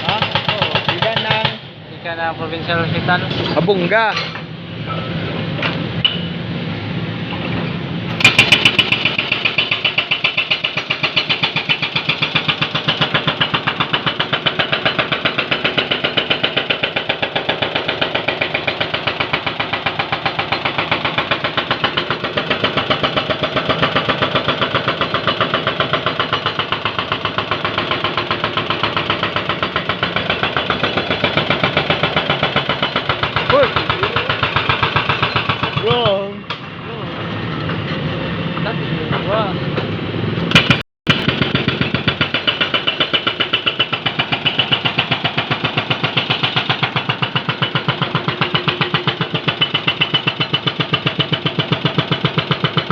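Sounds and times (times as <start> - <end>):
hydraulic breaker hammering: 0.0 - 1.7, 8.1 - 36.8, 40.5 - 52.9
excavator engine running: 4.7 - 52.9.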